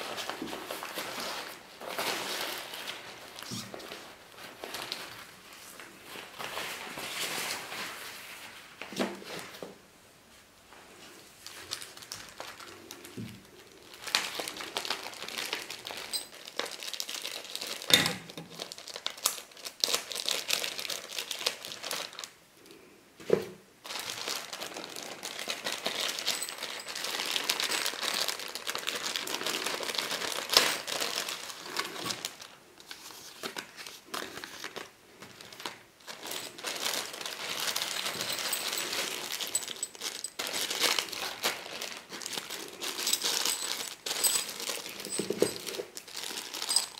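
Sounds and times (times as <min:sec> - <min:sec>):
plastic bags crinkling: 0:00.0 - 0:08.5, 0:11.4 - 0:22.4, 0:23.8 - 0:46.9.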